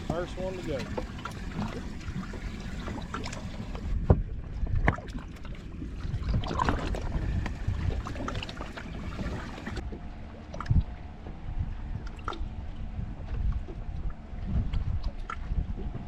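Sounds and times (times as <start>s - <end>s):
knocks of gear and fish in boat: 0.0s - 16.0s
wind rumble on microphone: 0.0s - 16.0s.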